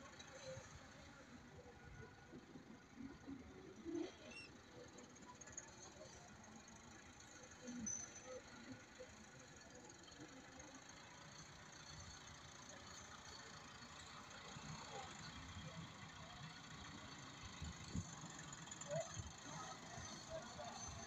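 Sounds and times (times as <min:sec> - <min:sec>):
faint tractor engine running: 0:00.0 - 0:21.0.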